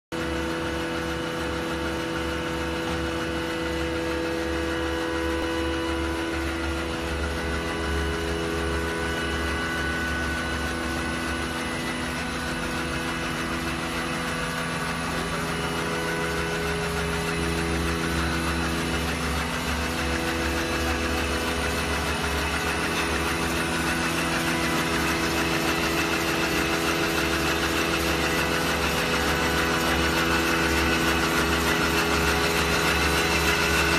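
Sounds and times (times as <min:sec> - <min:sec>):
folding machine mechanical hum: 0:00.1 - 0:33.9.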